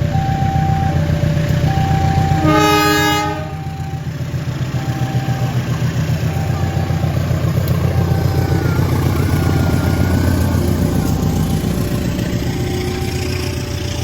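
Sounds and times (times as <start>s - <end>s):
faint high repeating tone: 0.0s - 14.0s
locomotive engine droning: 0.0s - 14.0s.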